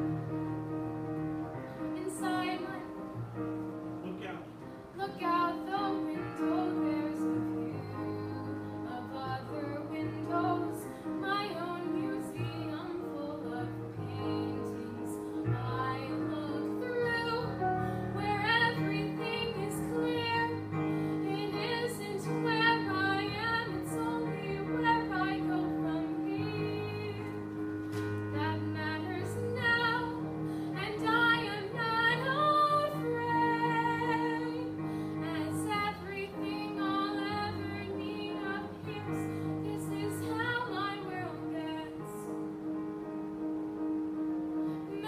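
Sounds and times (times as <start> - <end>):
instrumental accompaniment of low notes: 0.0 - 45.0
girl singing: 5.0 - 27.4, 28.4 - 42.0.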